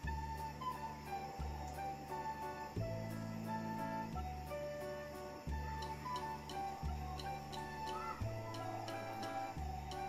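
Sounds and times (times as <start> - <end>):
simple higher melody: 0.0 - 10.0.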